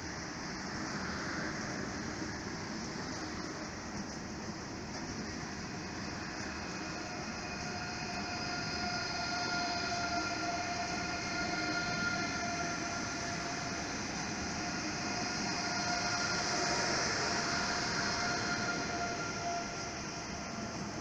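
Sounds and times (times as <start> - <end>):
train running rumble: 0.0 - 21.0
train whine: 0.0 - 21.0.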